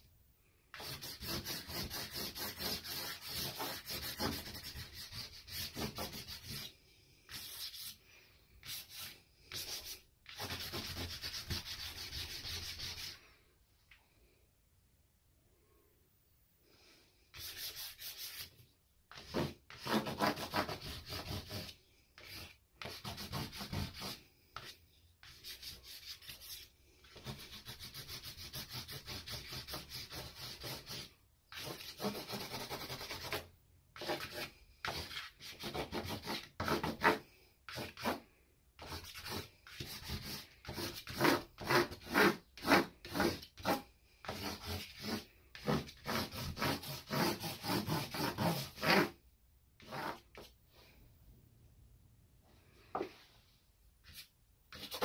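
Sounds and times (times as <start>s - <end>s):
charcoal scratching on paper: 0.7s - 6.7s, 7.3s - 8.0s, 8.6s - 13.2s, 17.3s - 38.2s, 38.8s - 49.2s, 49.8s - 50.5s, 54.0s - 55.0s.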